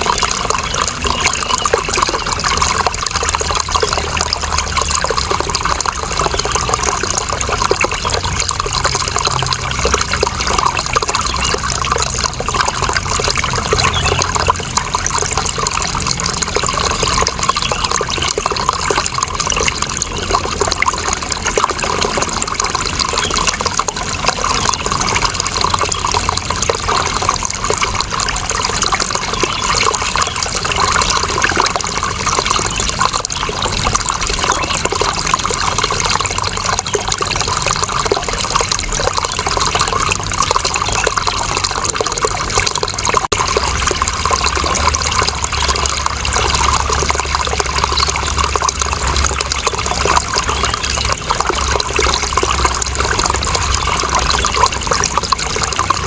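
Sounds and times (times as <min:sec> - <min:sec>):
running water flowing: 0:00.0 - 0:56.0.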